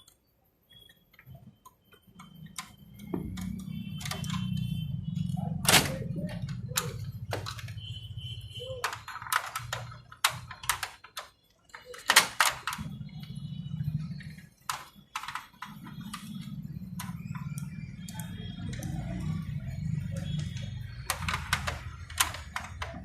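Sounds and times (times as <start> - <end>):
sharp clicks and knocks of parts: 0.8 - 8.0, 8.6 - 23.0.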